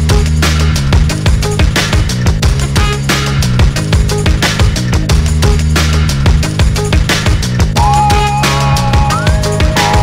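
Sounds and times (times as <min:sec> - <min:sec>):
electronic music with fast drums: 0:00.0 - 0:10.0.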